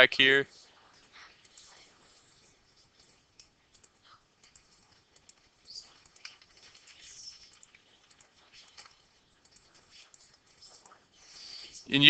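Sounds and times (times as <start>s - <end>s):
keyboard typing: 0.8s - 12.0s
computer mouse clicks: 0.9s - 11.9s.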